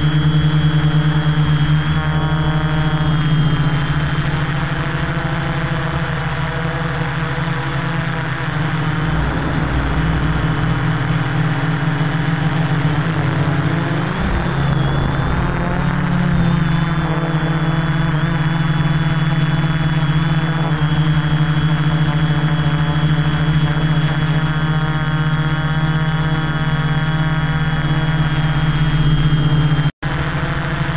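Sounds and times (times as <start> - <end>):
drone propellers humming: 0.0 - 30.9.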